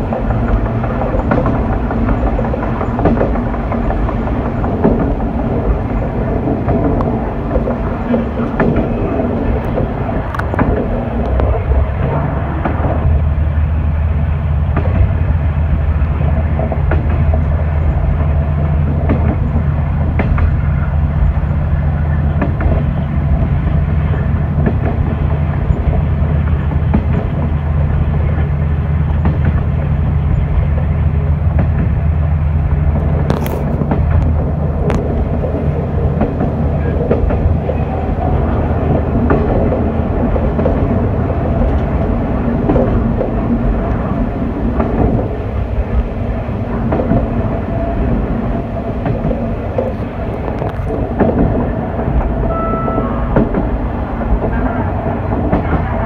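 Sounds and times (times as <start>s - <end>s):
diesel railcar engine: 0.0s - 56.0s
wheels clicking over rail joints: 0.0s - 56.0s.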